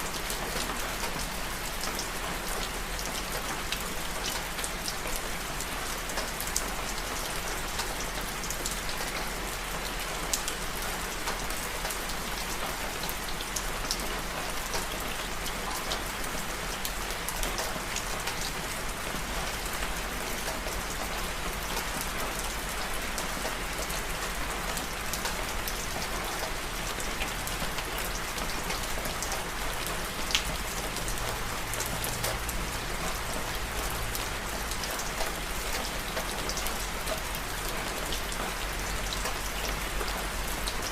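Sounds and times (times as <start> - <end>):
rain drops pattering: 0.0 - 40.9.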